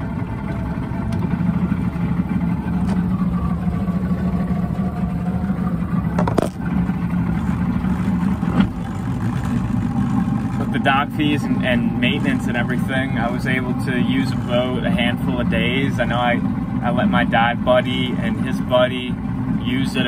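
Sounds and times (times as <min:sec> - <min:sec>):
outboard motor droning: 0:00.0 - 0:20.0.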